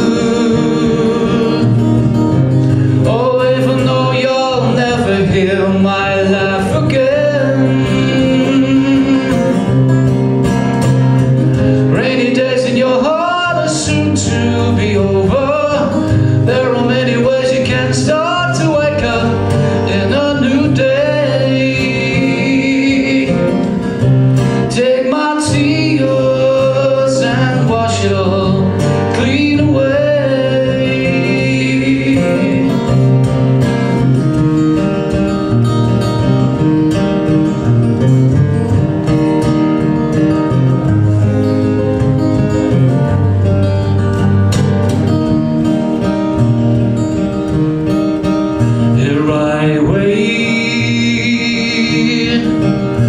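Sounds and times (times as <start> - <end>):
man singing folk song: 0.0 - 44.3, 45.0 - 53.0
acoustic guitar: 0.0 - 53.0.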